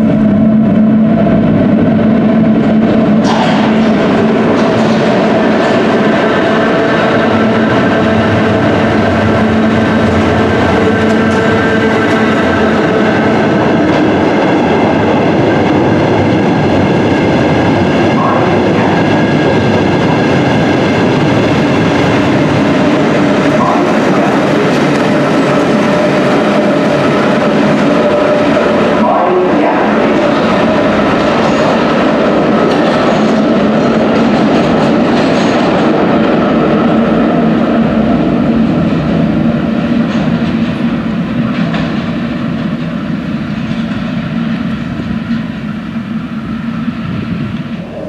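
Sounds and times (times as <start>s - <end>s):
train wagons rumbling over rails: 0.0s - 48.0s.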